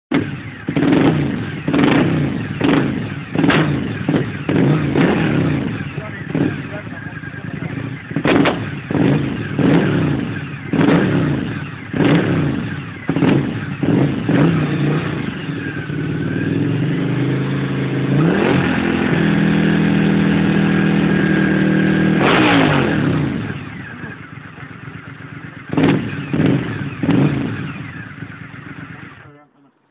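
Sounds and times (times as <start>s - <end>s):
exhaust crack: 0.1s - 29.5s
motorcycle engine revving: 0.1s - 29.9s.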